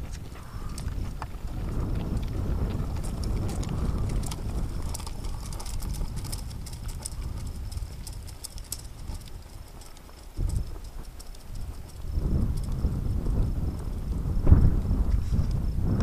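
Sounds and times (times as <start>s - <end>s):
gear clicking: 0.0s - 15.7s
wind rumble on microphone: 0.0s - 16.0s.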